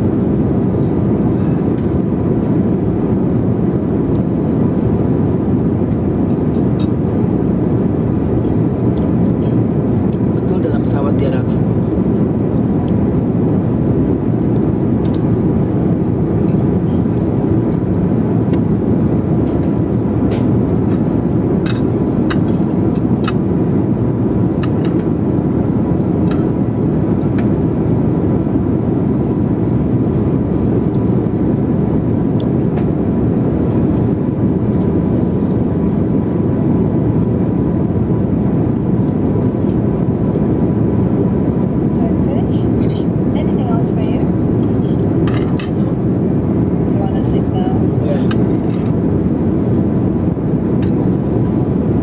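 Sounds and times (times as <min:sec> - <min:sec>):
airliner cabin noise: 0:00.0 - 0:52.0.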